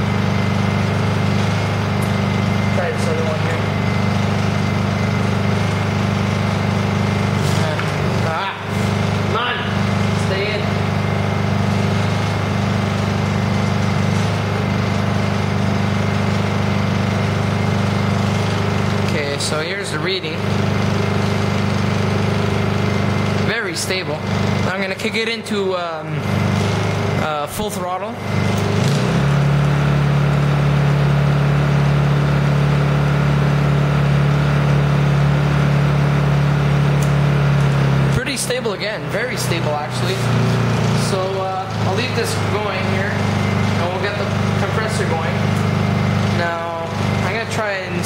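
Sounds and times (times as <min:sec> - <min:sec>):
generator engine running: 0:00.0 - 0:48.0.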